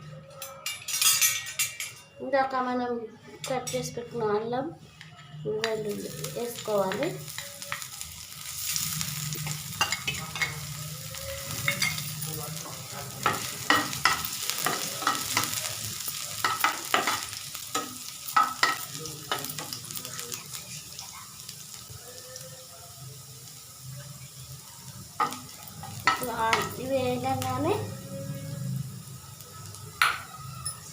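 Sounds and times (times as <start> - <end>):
food sizzling in oil: 5.4 - 30.9.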